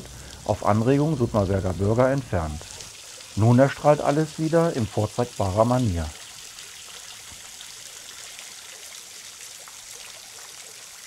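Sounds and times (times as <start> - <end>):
fountain water splashing on stone: 0.0 - 11.0.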